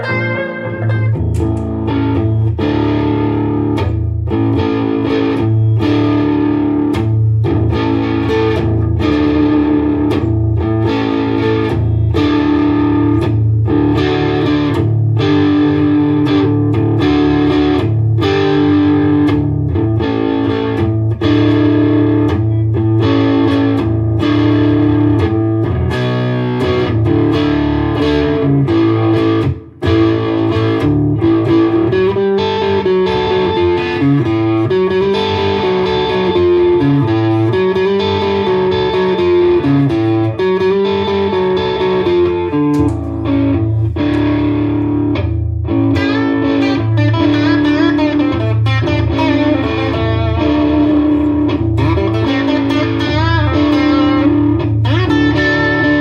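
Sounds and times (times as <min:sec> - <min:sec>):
electric guitar chord rhythm: 0:00.0 - 0:56.0
electric guitar lead lines: 0:00.0 - 0:56.0.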